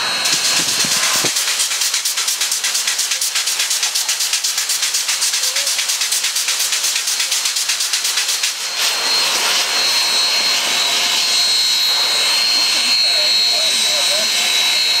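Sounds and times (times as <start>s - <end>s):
rhythmic steam hissing pulse: 0.0s - 15.0s
steady steam hiss with whistling: 0.0s - 15.0s.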